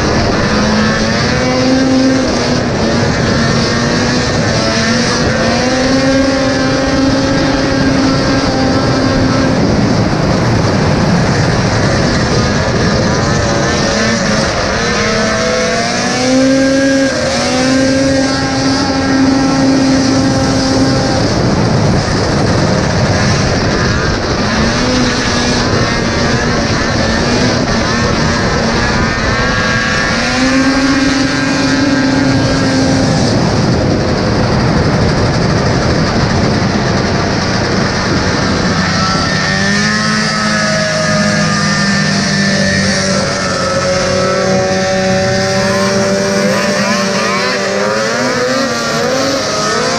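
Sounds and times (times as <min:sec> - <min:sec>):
snowmobile engine running hard: 0:00.0 - 0:49.9
wind and track noise: 0:00.0 - 0:49.9.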